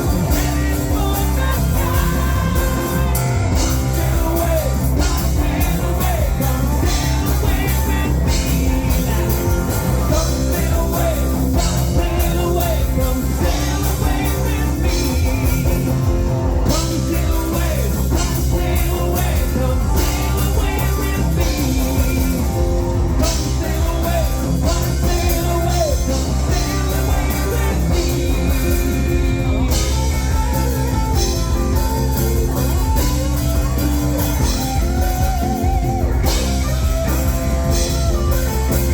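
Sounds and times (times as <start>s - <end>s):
bass and drums: 0.0s - 38.9s
guitar: 0.0s - 38.9s
live rock band playing: 0.0s - 38.9s
person singing: 0.0s - 38.9s.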